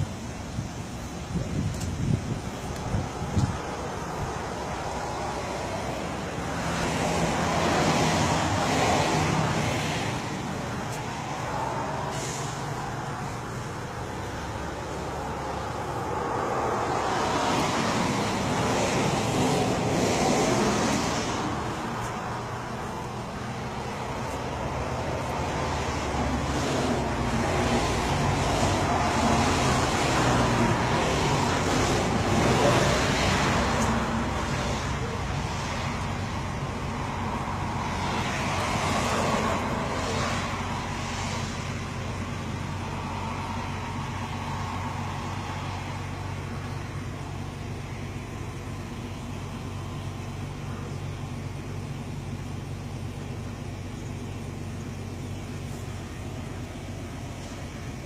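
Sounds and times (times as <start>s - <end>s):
vehicles passing on highway: 0.0s - 58.0s.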